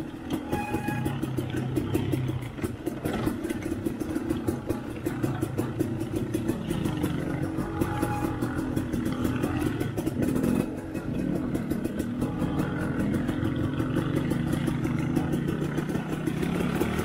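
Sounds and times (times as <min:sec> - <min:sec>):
dirt bike engine revving: 0:00.1 - 0:17.0.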